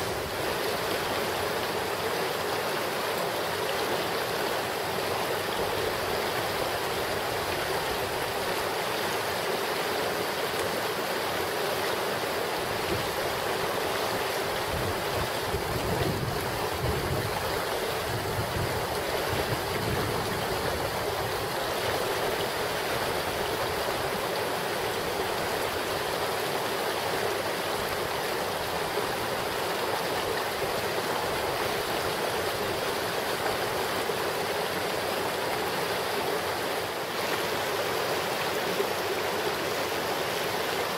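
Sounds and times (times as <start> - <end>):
creek flowing over rocks: 0.0 - 40.9.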